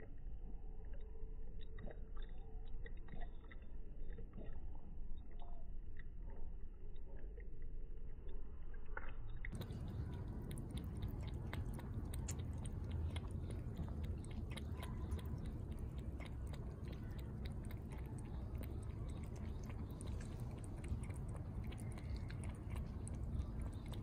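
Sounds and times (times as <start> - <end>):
cat lapping water: 0.0 - 24.0
low background rumble: 0.0 - 24.0.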